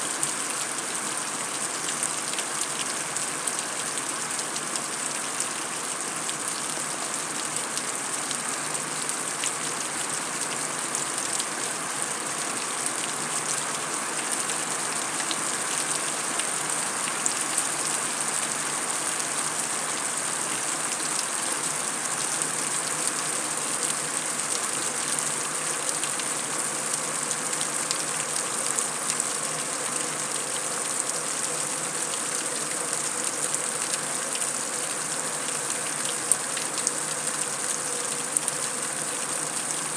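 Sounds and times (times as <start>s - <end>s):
heavy rain on concrete: 0.0s - 39.9s.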